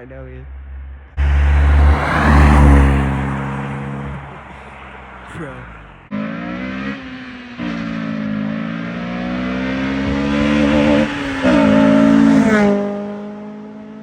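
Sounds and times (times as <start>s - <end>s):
car engine at high revs passing: 0.5s - 14.0s.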